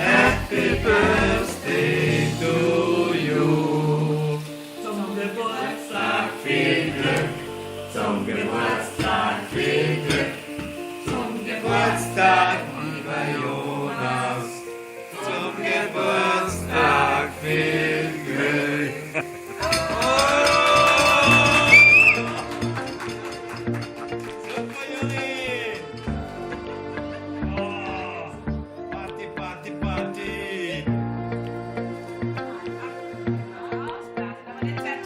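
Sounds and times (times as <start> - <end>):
choir-like singing with music: 0.0 - 35.0.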